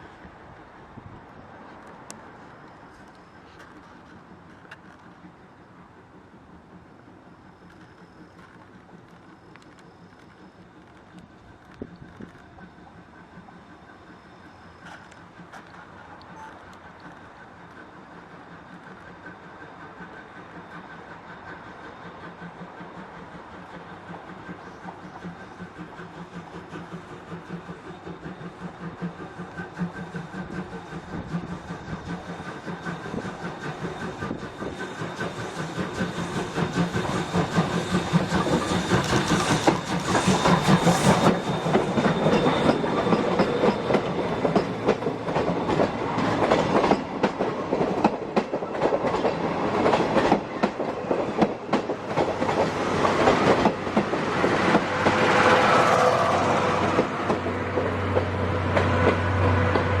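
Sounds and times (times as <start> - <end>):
train wheels clattering on rails: 0.0 - 60.0.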